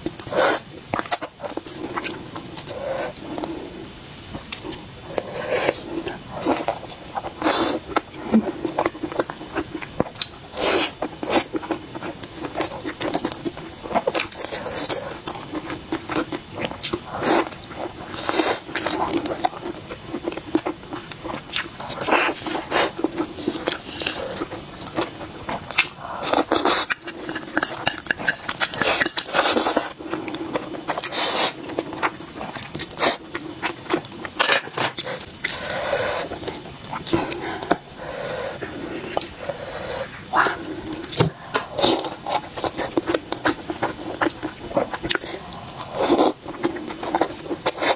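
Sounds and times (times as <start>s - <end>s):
chewing with crunches: 0.0s - 47.9s.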